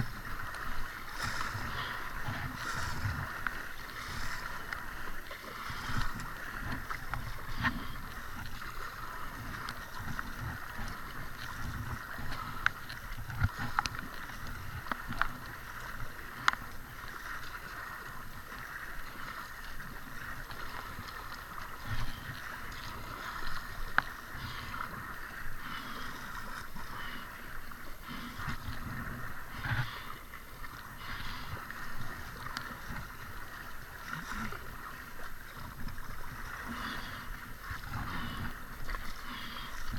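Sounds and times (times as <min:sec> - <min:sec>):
paddle strokes splashing: 0:00.0 - 0:39.9
water washing against hull: 0:00.0 - 0:39.9.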